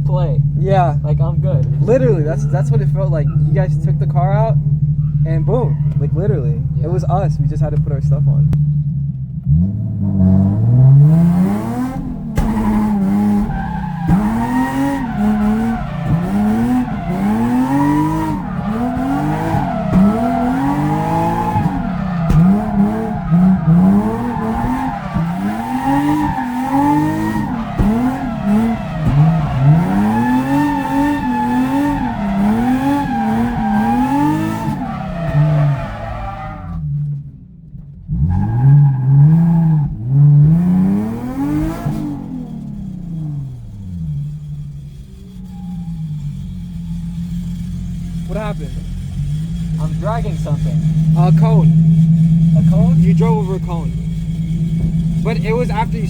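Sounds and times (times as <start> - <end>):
car engine revving: 0.0 - 56.0
tyres skidding: 0.0 - 56.0.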